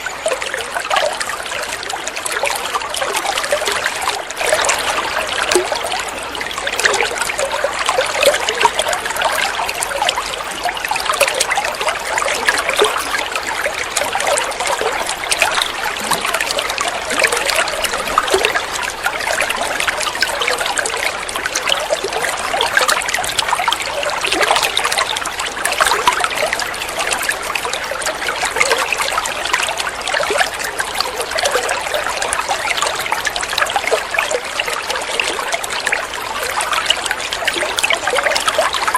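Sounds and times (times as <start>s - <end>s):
water running and trickling: 0.0s - 38.9s.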